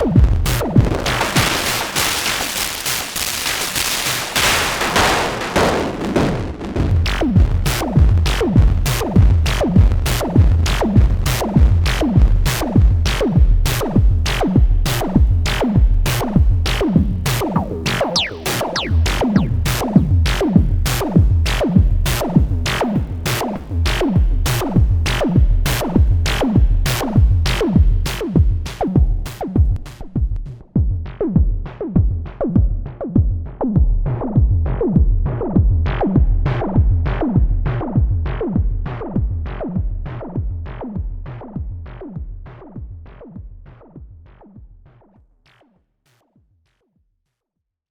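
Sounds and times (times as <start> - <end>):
electronic drum synthesizer beat: 0.0 - 45.7.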